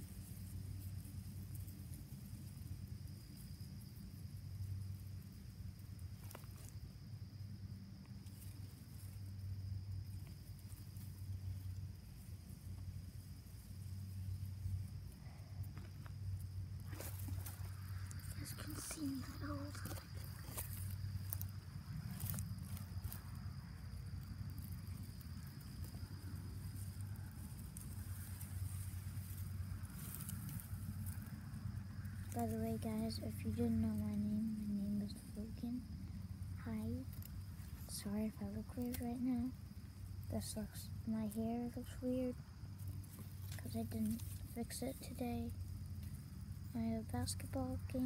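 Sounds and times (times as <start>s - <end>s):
insects chirring in grass: 0.0s - 48.0s
low steady rumble: 0.0s - 48.0s.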